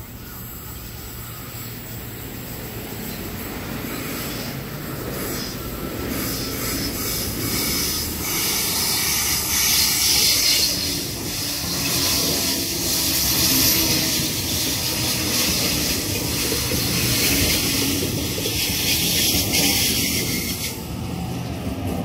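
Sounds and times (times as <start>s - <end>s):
electric train passing: 0.0s - 22.0s
train wheels rumbling on rails: 0.0s - 22.0s.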